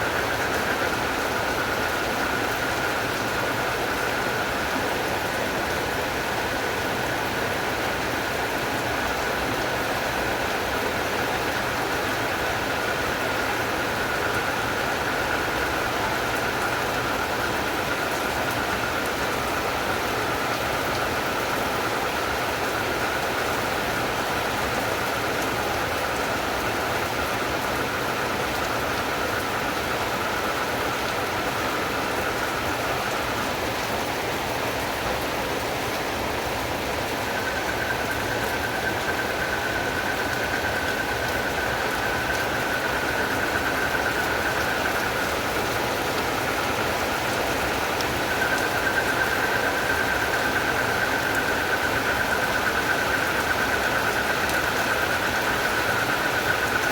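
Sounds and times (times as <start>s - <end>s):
frogs and crickets calling: 0.0s - 56.9s
steady rain falling: 0.0s - 56.9s.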